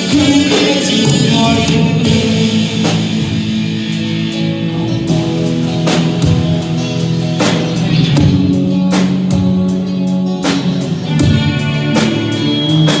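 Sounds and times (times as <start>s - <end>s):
bass guitar: 0.0s - 13.0s
drum kit with cymbal and snare: 0.0s - 13.0s
electric guitar chords: 0.0s - 13.0s.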